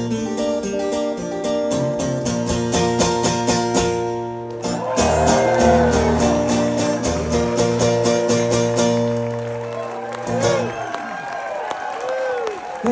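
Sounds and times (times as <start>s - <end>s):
acoustic guitar picking: 0.0s - 10.8s.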